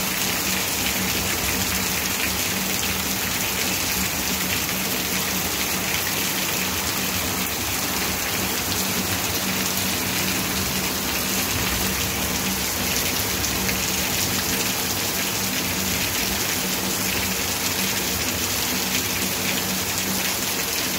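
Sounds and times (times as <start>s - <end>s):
heavy rain on concrete: 0.0s - 20.9s.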